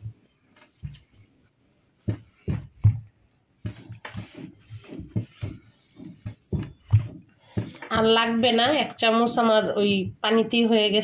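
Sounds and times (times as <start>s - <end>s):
hands kneading dough: 0.0s - 11.0s.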